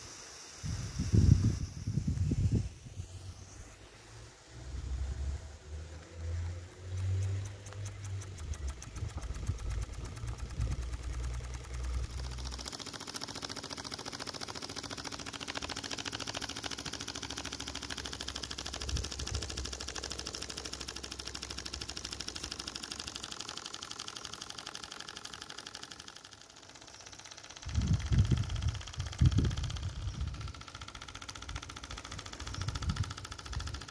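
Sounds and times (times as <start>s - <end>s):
small steam engine ticking exhaust: 0.0s - 33.9s.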